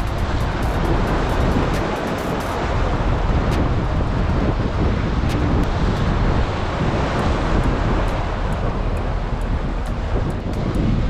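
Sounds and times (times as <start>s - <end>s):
ocean surf breaking on rocks: 0.0s - 11.0s
wind buffeting microphone: 0.0s - 11.0s.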